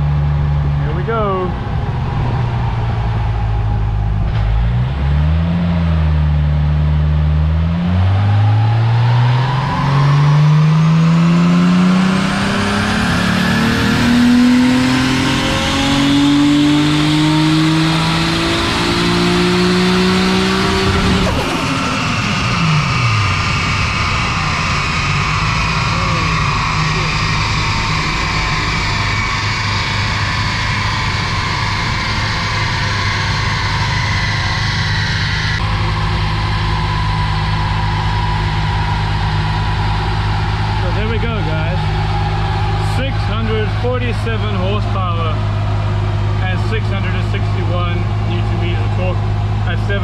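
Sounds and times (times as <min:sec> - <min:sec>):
turbocharged engine revving: 0:00.0 - 0:50.0.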